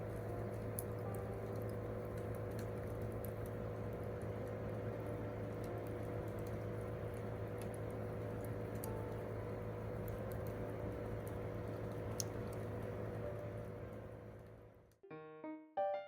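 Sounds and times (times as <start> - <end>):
campfire crackling: 0.0 - 14.7.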